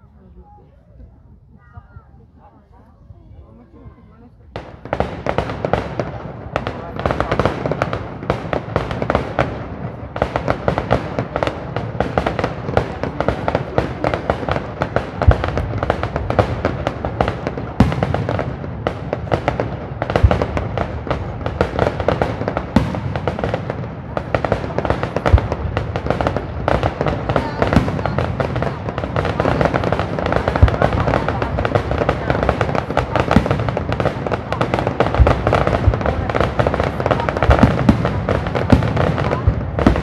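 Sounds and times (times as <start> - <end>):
fireworks crackling: 4.0 - 40.0.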